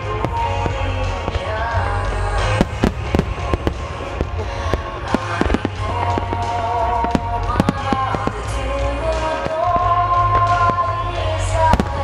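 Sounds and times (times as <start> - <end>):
fireworks bursting with sharp bangs: 0.0 - 12.0
steady music: 0.0 - 12.0.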